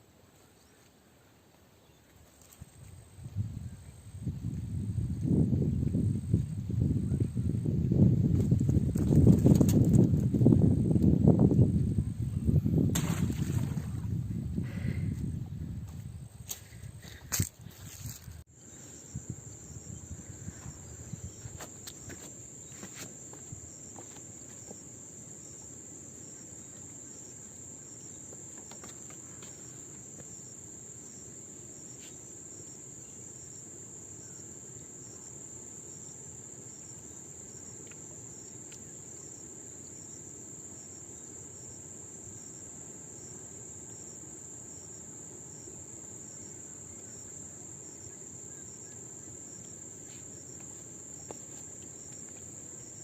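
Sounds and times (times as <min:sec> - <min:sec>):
insects chirring: 0:01.8 - 0:53.0.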